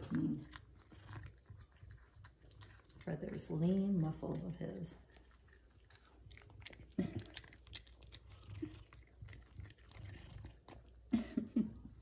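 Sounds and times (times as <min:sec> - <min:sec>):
cat chewing wet clicks: 0:00.0 - 0:03.8, 0:05.0 - 0:11.1.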